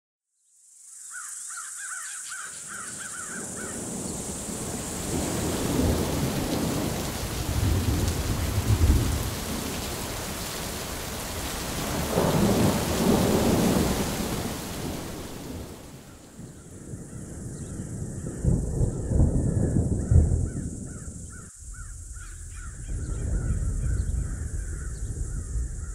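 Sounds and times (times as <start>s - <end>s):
rain hissing: 2.3s - 25.9s
thunder rumbling: 3.0s - 25.9s.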